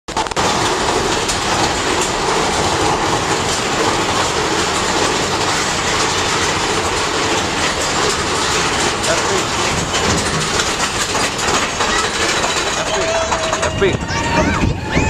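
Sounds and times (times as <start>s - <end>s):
roller coaster cars clattering: 0.1s - 15.0s.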